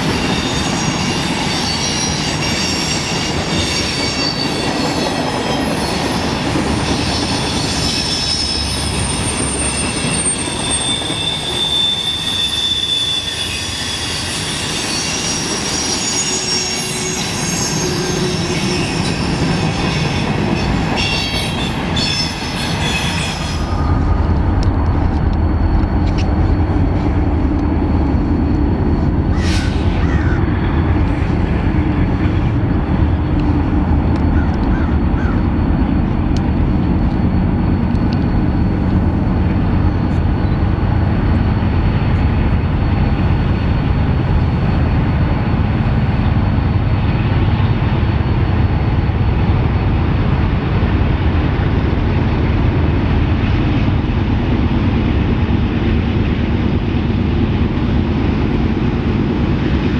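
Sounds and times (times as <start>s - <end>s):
freight train rumbling past: 0.0s - 59.9s
train wheels squealing: 0.0s - 59.9s.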